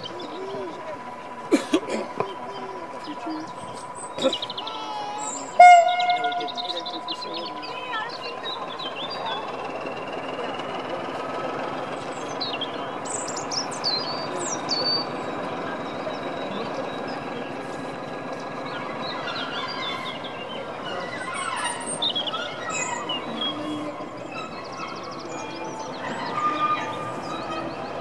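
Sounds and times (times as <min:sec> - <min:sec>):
birds chirping: 0:00.0 - 0:28.0
diesel locomotive engine: 0:00.0 - 0:28.0.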